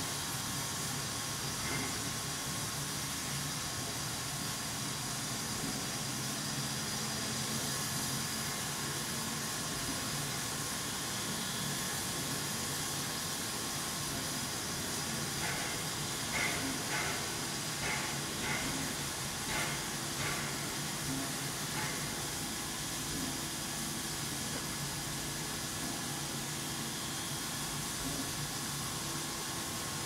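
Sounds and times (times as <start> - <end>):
steam locomotive hissing: 0.0 - 30.0.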